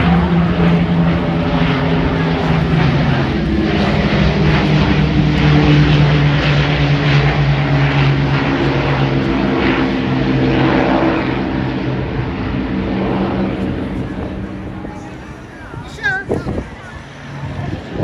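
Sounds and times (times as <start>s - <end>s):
aircraft piston engines droning: 0.0s - 18.0s.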